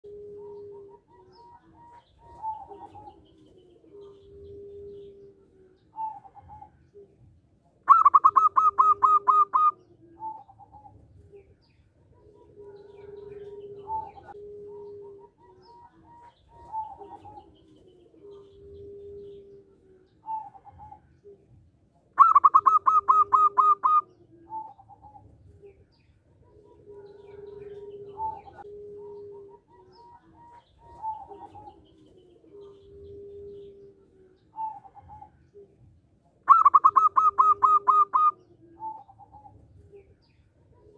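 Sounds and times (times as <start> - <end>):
dove singing clipped notes: 0.0 - 40.9.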